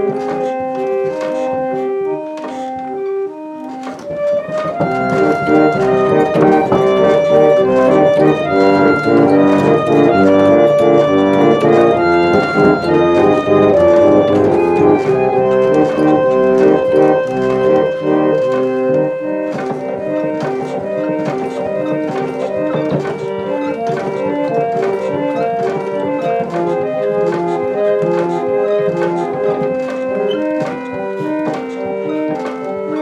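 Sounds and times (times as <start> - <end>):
pump organ chords: 0.0 - 33.0.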